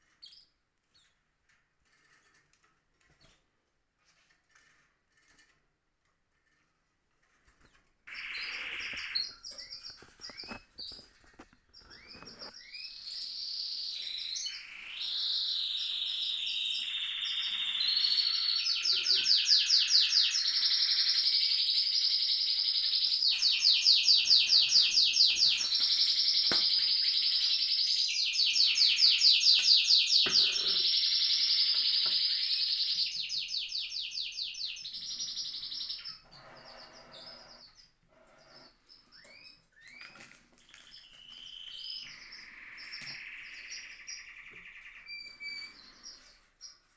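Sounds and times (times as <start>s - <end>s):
canary singing with trills: 7.6s - 46.9s.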